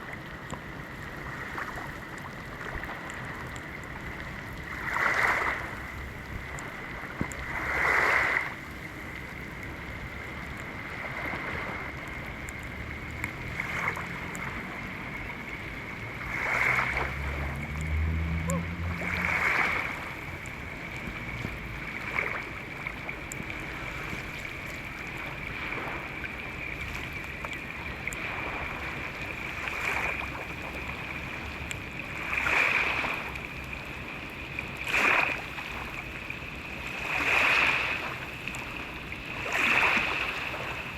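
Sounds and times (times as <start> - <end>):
seawater washing in: 1.2 - 40.9.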